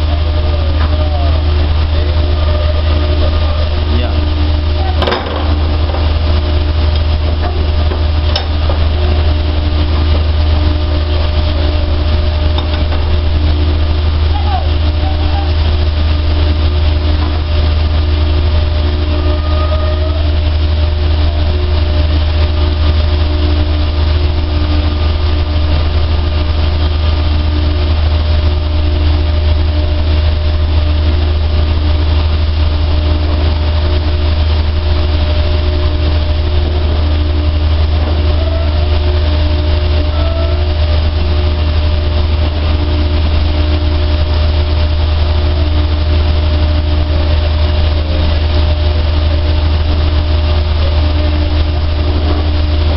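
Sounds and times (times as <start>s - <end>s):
dryer motor and fan drone: 0.0s - 52.9s.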